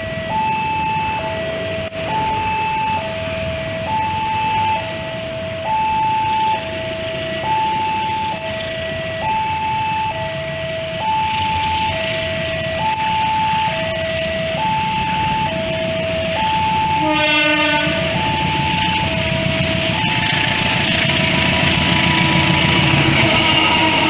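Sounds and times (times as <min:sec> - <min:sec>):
level crossing alarm two-tone: 0:00.0 - 0:24.0.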